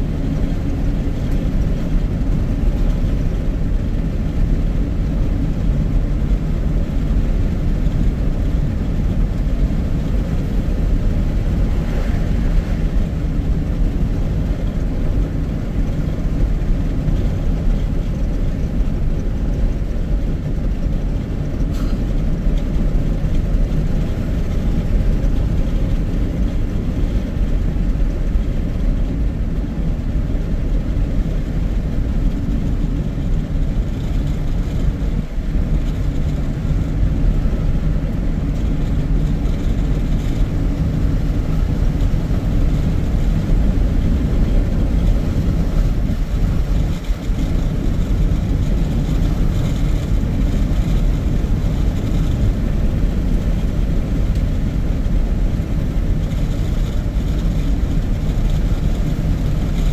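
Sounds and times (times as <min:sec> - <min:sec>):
car driving on highway: 0:00.0 - 0:59.9.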